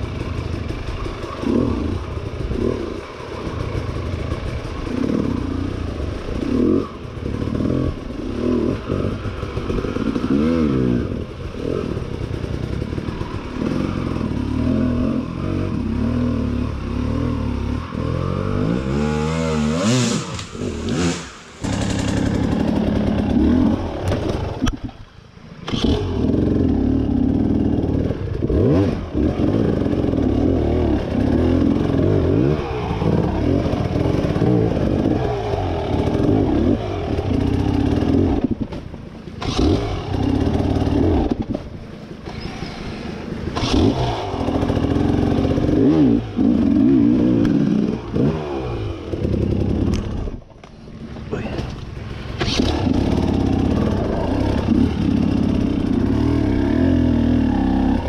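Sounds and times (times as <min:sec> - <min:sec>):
dirt bike engine revving: 0:00.0 - 0:24.8, 0:25.6 - 0:50.4, 0:51.0 - 0:58.0.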